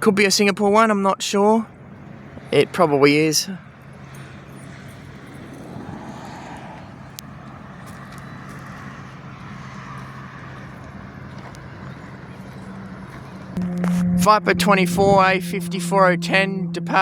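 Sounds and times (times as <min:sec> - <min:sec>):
turboprop plane propeller drone: 0:00.0 - 0:17.0.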